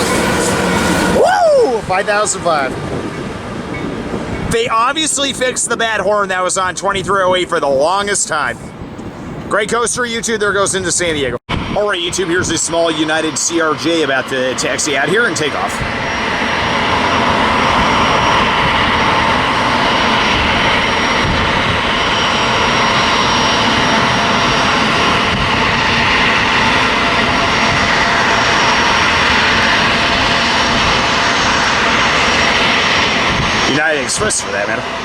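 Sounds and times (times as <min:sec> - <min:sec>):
jet engines running with whine: 0:00.0 - 0:35.0.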